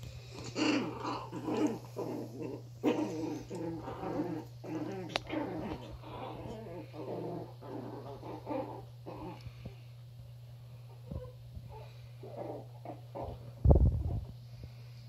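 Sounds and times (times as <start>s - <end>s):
puppies growling in play: 0.0s - 15.0s.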